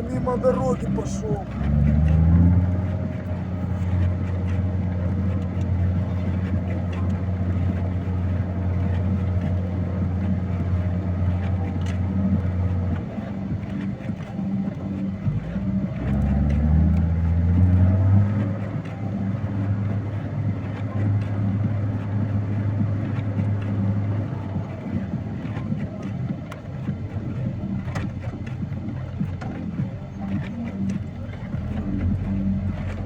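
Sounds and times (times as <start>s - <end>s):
heavy vehicle engine under load: 0.0s - 33.0s.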